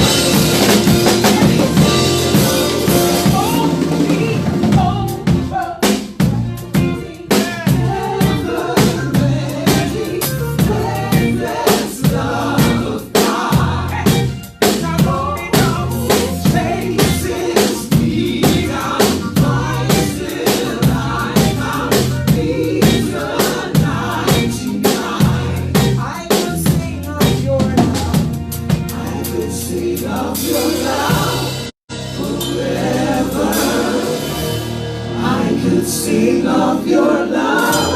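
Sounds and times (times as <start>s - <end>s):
live band playing: 0.0s - 37.9s.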